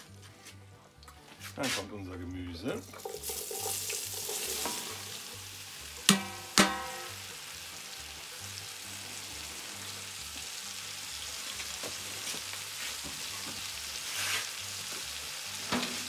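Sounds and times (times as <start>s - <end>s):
vegetables sizzling in hot fat: 2.8s - 16.0s.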